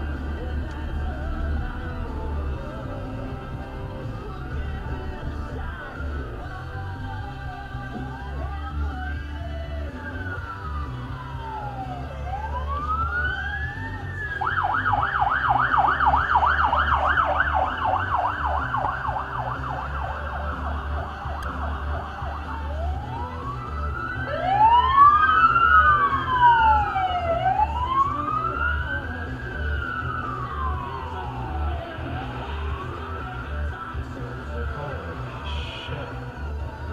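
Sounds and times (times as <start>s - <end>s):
emergency siren wailing and yelping: 0.0s - 36.7s
second siren wailing: 3.6s - 36.2s.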